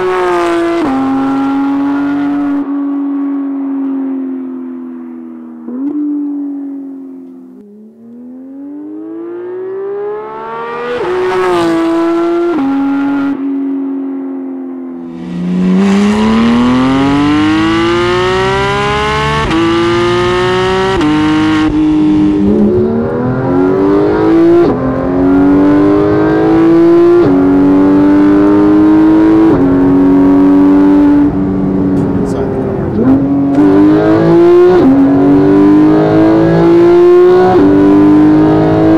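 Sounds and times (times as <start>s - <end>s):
sports car engine accelerating: 0.0s - 38.9s.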